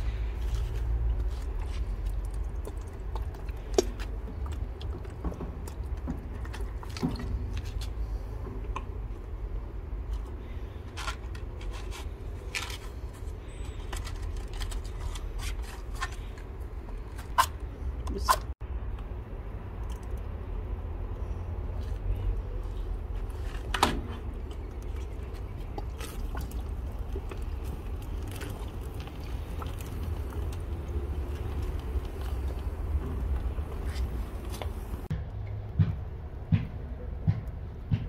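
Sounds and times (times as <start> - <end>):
charcoal clicking and scraping: 0.0 - 9.2, 10.0 - 18.5, 21.8 - 35.1
steady low rumble: 0.0 - 38.0.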